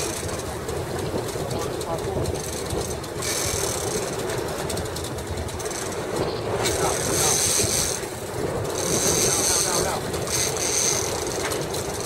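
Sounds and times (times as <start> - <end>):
boat engine running: 0.0 - 12.0
water splashing along hull: 0.0 - 12.0.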